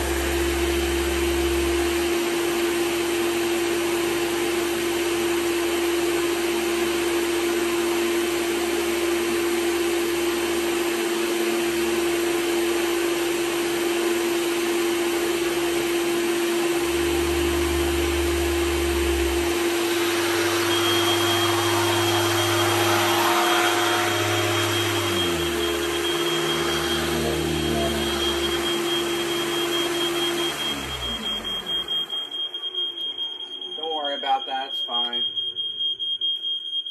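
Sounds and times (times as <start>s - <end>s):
high steady whine: 0.0s - 10.8s, 15.2s - 36.5s
vacuum cleaner motor whine: 0.0s - 36.8s.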